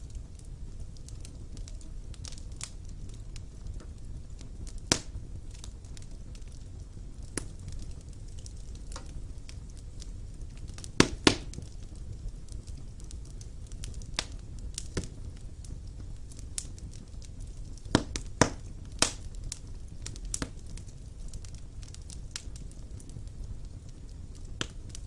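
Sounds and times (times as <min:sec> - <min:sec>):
fire rumbling: 0:00.0 - 0:25.0
wood fire crackling and popping: 0:00.0 - 0:25.0.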